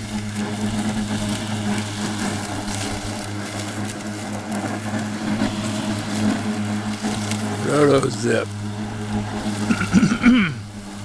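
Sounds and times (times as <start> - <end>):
electric lawn mower humming: 0.0 - 11.0.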